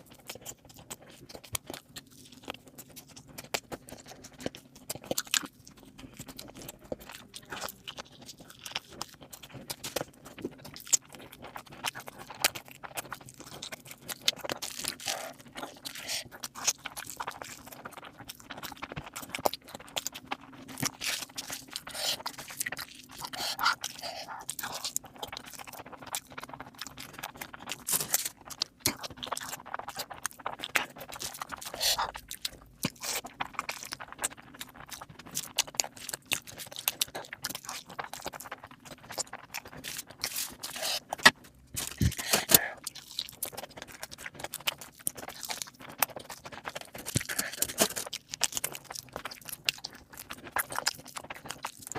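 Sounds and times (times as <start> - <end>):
chewing and crunching: 0.0 - 51.9
faint steady hum: 0.0 - 51.9.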